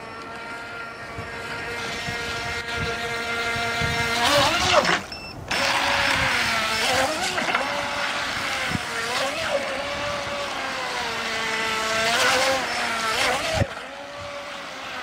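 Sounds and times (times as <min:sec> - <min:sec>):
rc boat motor whine: 0:00.0 - 0:15.0.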